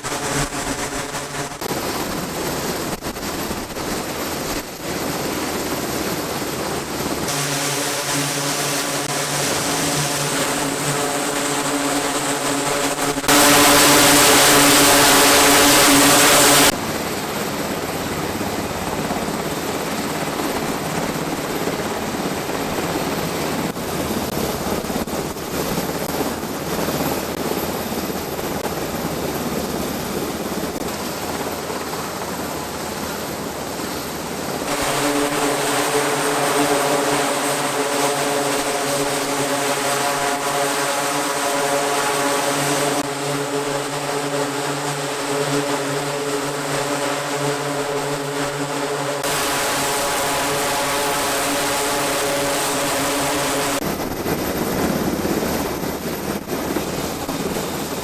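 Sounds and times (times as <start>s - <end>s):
droning engine hum: 0.0s - 58.0s
steady rushing aircraft noise: 0.0s - 58.0s.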